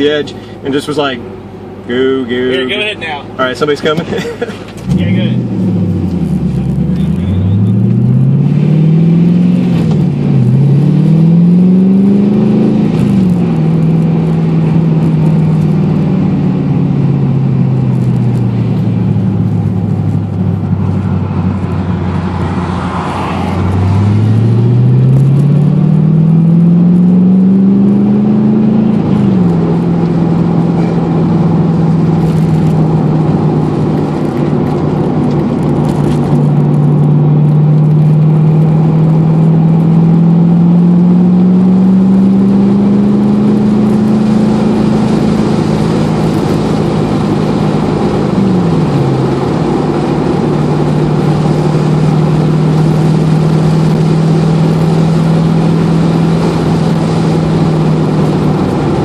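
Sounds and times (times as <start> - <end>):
car engine accelerating with upshifts: 0.0 - 59.0.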